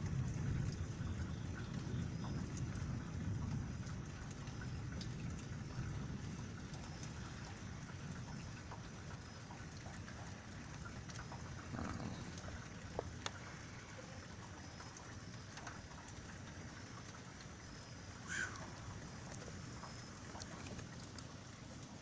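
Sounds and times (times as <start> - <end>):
sharp drip-like ticks: 0.0 - 22.0
steady rain falling: 0.0 - 22.0.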